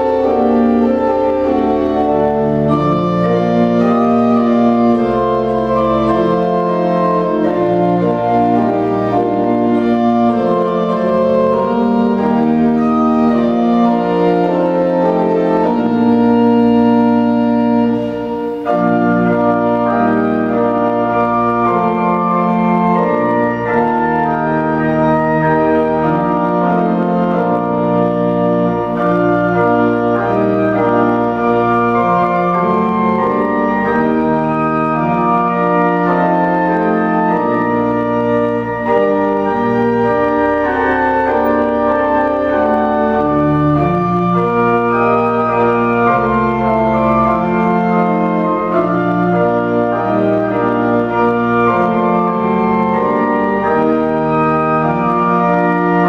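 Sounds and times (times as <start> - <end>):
church organ playing hymn: 0.0 - 56.0.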